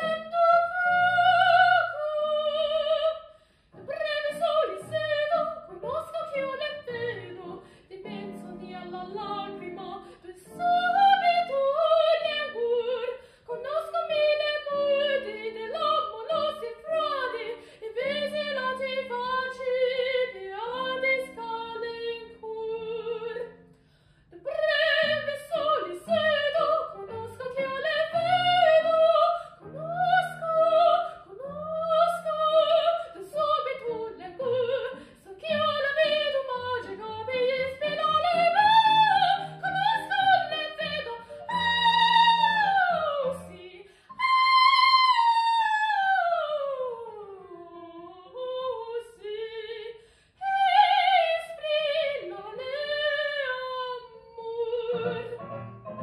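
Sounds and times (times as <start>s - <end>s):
woman singing opera: 0.0s - 23.6s, 24.4s - 56.0s.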